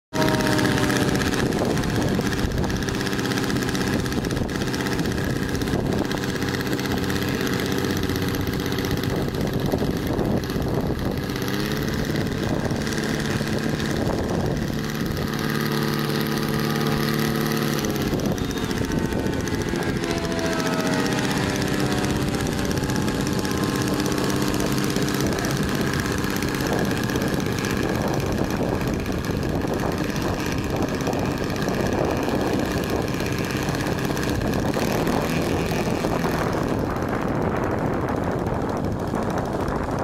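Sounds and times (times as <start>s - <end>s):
model airplane engine running: 0.1s - 40.0s.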